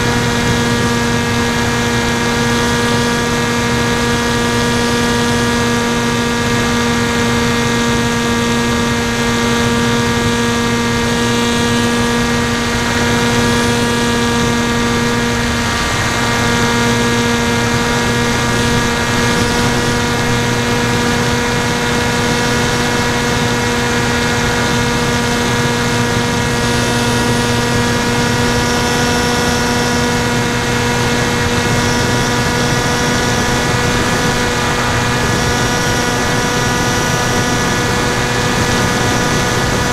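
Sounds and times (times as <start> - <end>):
motor and propeller drone: 0.0 - 39.9
rushing airflow: 0.0 - 39.9.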